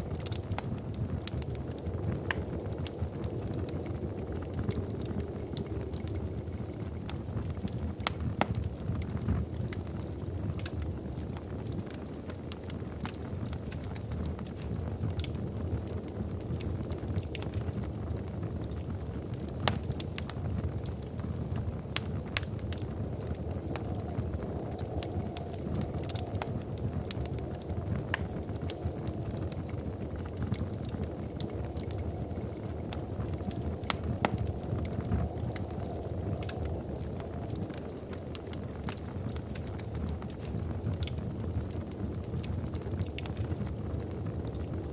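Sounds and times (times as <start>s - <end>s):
fire pops and snaps: 0.0s - 44.9s
wood fire crackling: 0.0s - 44.9s.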